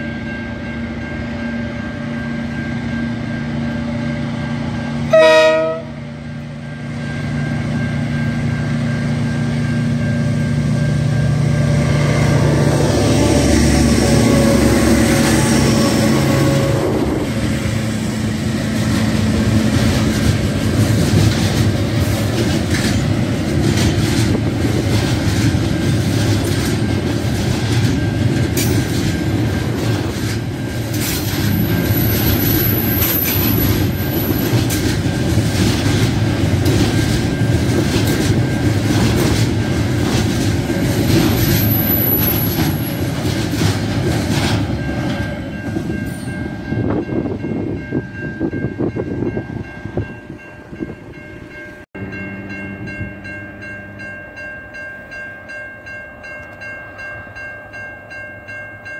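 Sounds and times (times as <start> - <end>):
freight train wheels clacking: 0.0 - 54.4.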